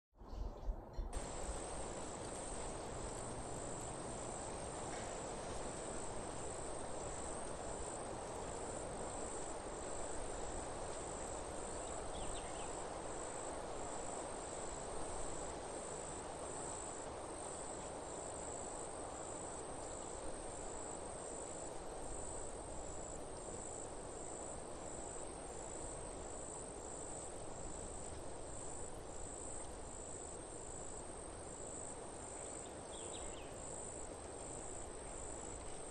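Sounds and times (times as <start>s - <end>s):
outdoor ambience hiss: 0.2s - 35.9s.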